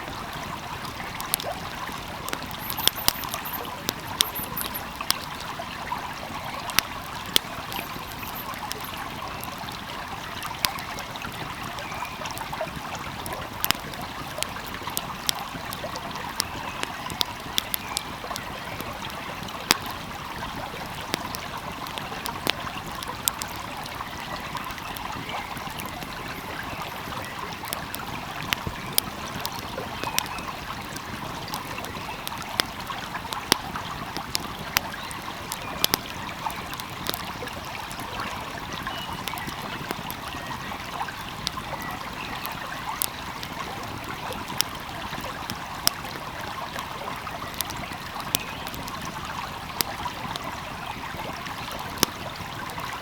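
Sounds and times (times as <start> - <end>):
stream flowing: 0.0 - 53.0
wood fire crackling: 0.0 - 53.0.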